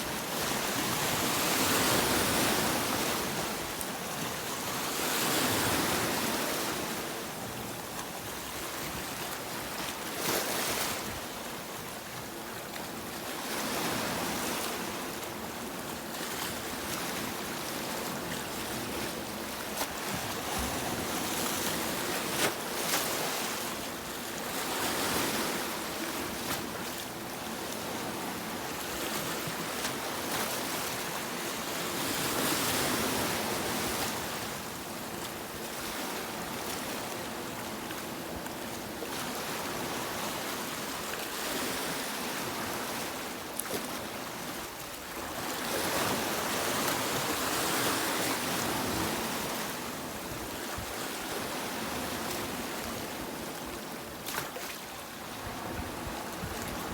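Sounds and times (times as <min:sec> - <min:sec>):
waves breaking on beach: 0:00.0 - 0:56.9.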